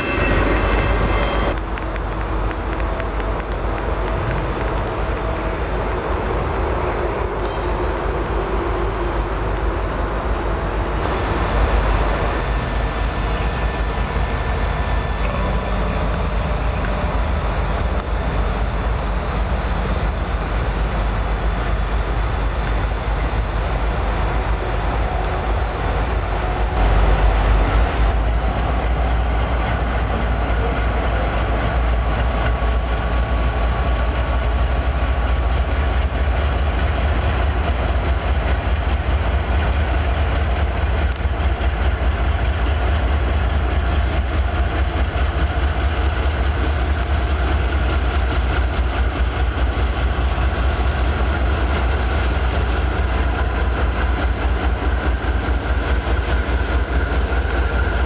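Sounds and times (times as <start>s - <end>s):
diesel locomotive engines rumbling: 0.0s - 58.0s
train wheels on rails: 0.0s - 58.0s.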